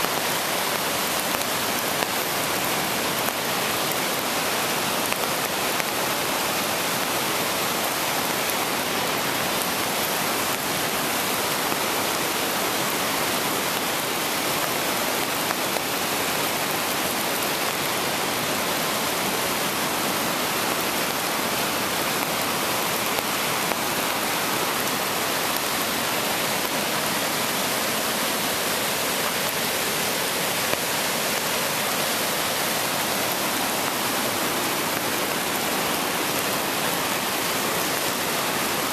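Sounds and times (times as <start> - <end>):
river rushing: 0.0 - 38.9.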